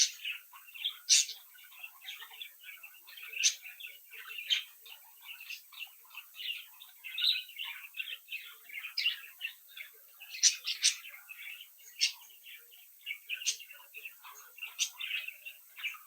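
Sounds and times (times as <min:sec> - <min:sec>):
budgerigars chattering and warbling: 0:00.0 - 0:16.0
sharp bird calls: 0:00.0 - 0:16.0.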